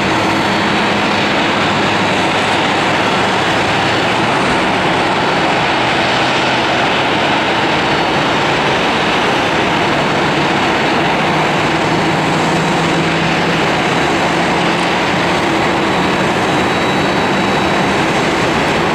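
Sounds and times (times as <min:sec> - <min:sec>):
jet engines running with whine: 0:00.0 - 0:18.9.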